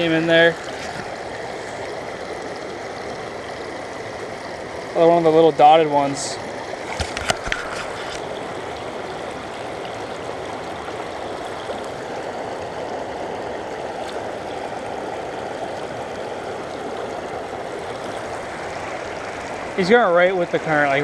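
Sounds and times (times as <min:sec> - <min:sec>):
stream flowing over rocks: 0:00.0 - 0:21.0.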